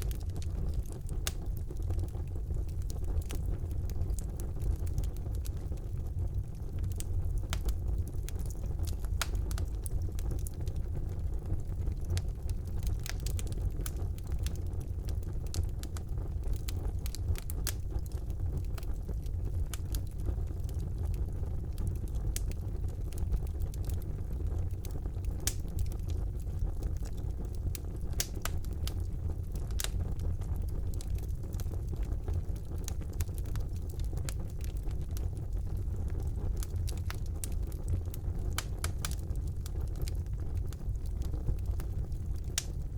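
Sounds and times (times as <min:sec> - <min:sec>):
burning logs crackling and popping: 0:00.0 - 0:42.9
fire flames rumbling: 0:00.0 - 0:42.9.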